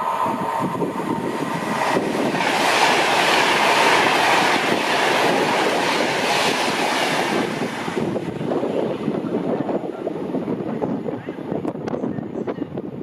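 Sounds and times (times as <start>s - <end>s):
train wheels on rails: 0.0s - 12.1s.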